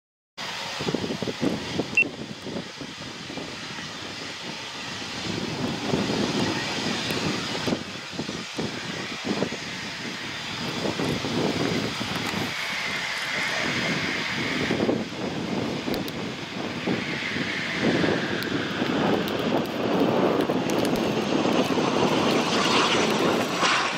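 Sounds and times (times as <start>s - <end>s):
jet engines roaring: 0.4s - 23.9s.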